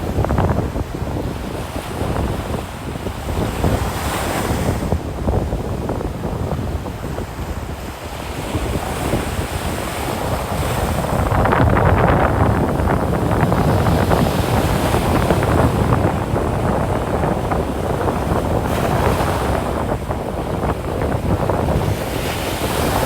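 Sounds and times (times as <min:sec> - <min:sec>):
ocean waves breaking: 0:00.0 - 0:23.0
wind buffeting microphone: 0:00.0 - 0:23.0.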